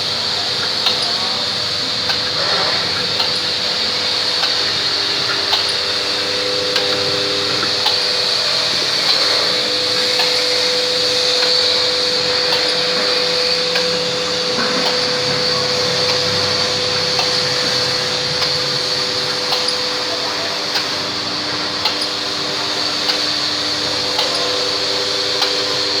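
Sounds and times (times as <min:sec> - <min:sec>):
packing machine motor hum: 0:00.0 - 0:26.0.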